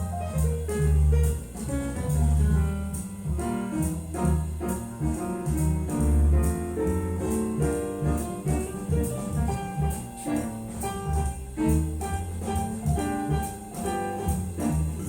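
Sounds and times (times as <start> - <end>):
bass line: 0.0 - 15.0
jazz piano: 0.0 - 15.0.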